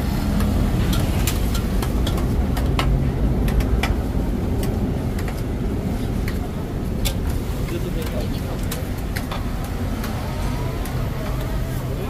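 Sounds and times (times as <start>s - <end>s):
road traffic and motorbikes rumble: 0.0s - 12.0s.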